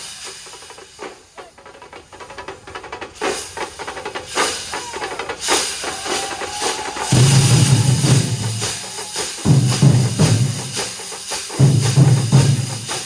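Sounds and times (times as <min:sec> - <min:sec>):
drum troupe playing: 0:00.0 - 0:13.0.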